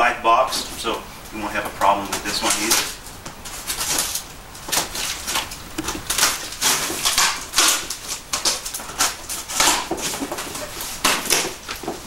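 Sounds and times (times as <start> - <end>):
cardboard and foam scraping: 2.2 - 12.0.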